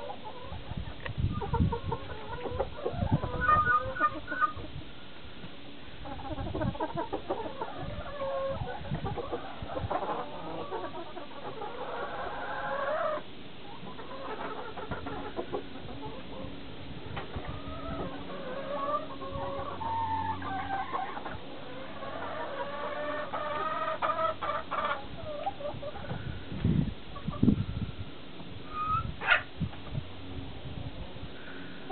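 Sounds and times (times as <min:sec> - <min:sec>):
hens clucking and calling: 0:00.0 - 0:05.0, 0:06.0 - 0:28.0, 0:28.6 - 0:30.0.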